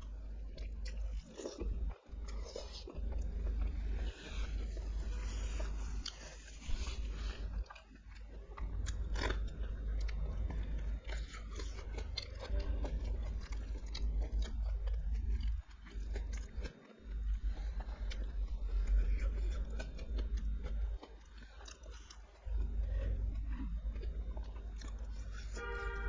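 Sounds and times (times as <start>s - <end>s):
chewing and biting food: 0.0s - 26.0s
low hum: 0.0s - 26.0s.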